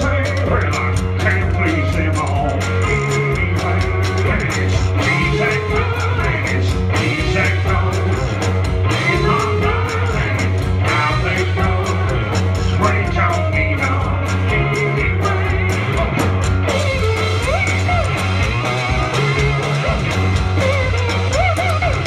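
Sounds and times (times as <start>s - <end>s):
drum kit beat: 0.0s - 22.0s
electric guitar: 0.0s - 22.0s
live country blues band: 0.0s - 22.0s.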